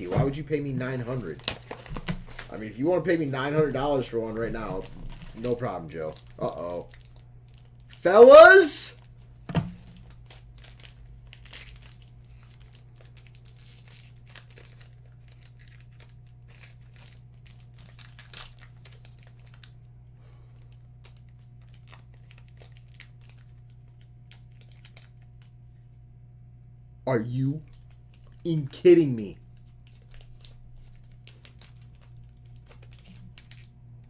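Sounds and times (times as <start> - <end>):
card packaging tearing and crinkling: 0.0 - 8.6, 9.9 - 19.8, 20.6 - 25.4, 27.7 - 33.7.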